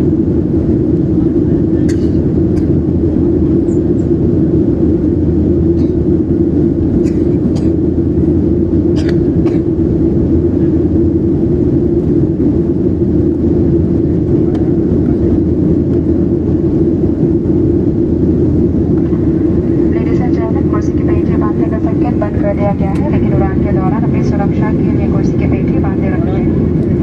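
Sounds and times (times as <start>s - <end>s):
airliner cabin engine drone: 0.0s - 27.0s.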